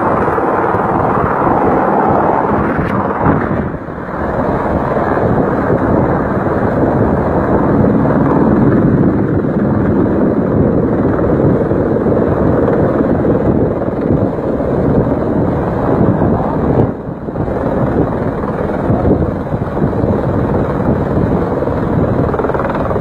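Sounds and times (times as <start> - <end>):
helicopter hovering: 0.0 - 23.0
wind buffeting microphone: 0.0 - 23.0.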